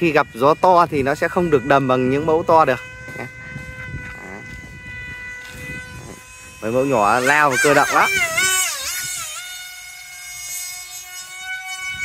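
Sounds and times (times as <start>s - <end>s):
model jet motor high whine: 0.0s - 12.0s.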